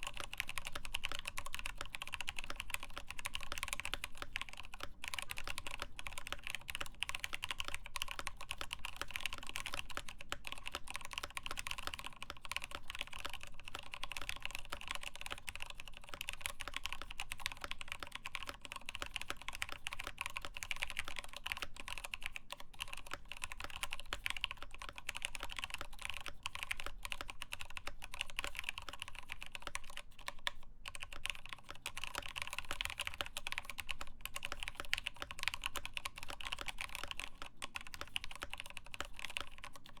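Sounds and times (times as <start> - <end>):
typing on mechanical keyboard: 0.0 - 40.0.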